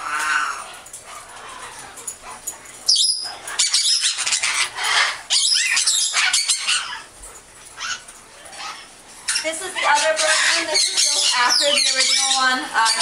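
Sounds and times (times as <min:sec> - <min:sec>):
parrots squawking: 0:00.0 - 0:13.0.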